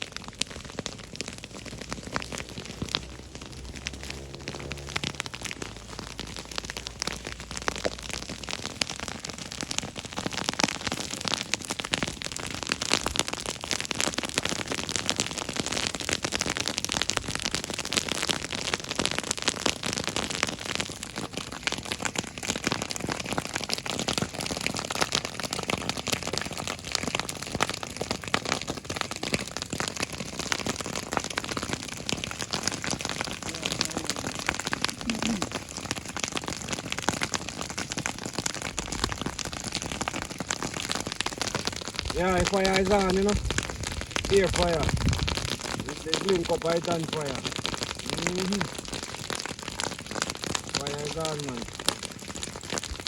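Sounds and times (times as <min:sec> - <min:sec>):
grass fire crackling: 0:00.0 - 0:53.0.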